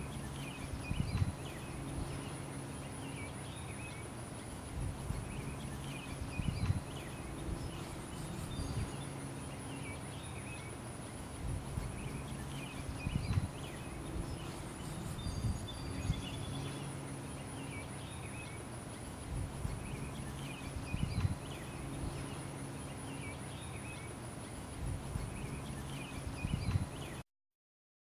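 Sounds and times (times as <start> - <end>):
birds chirping: 0.0 - 27.2
insect buzz: 0.0 - 27.2
low hum: 0.0 - 27.2.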